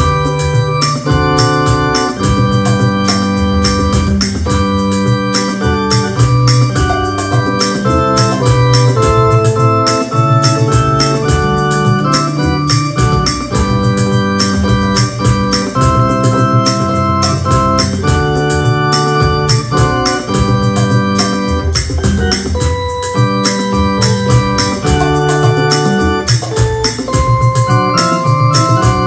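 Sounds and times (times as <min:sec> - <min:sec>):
electronic keyboard organ hymn: 0:00.0 - 0:29.0
ticking beat: 0:00.0 - 0:29.0.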